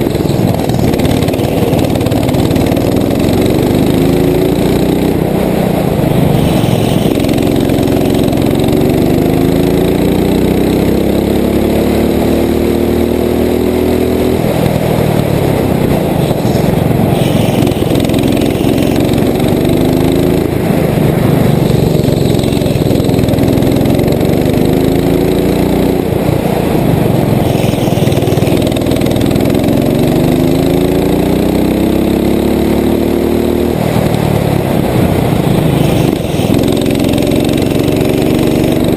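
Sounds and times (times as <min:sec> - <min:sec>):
go-kart engine accelerating: 0:00.0 - 0:38.9.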